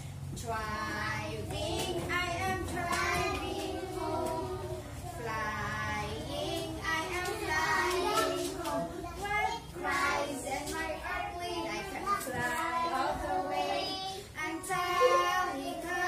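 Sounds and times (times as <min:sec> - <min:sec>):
children singing in unison: 0:00.5 - 0:16.0.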